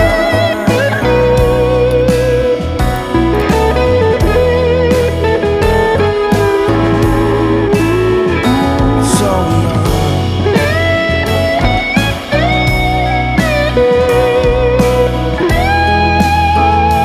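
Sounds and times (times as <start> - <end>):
bass and beat: 0.0 - 17.0
lead guitar with vibrato: 0.0 - 17.0.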